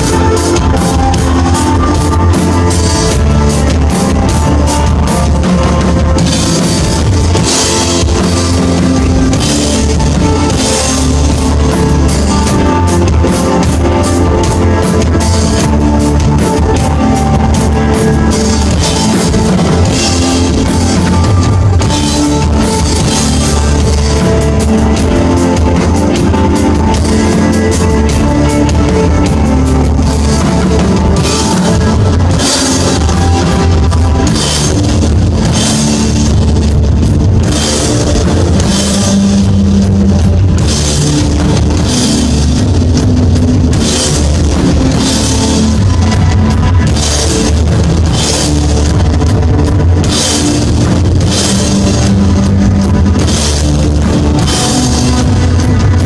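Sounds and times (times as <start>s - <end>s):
drum kit with cymbal crashes: 0.0s - 56.0s
electric guitar: 0.0s - 56.0s
heavy bass line: 0.0s - 56.0s.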